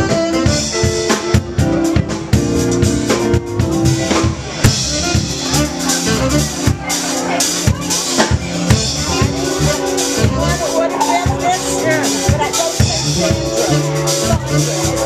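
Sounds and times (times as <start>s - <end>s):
bass drum and snare beat: 0.0s - 15.0s
live band playing: 0.0s - 15.0s.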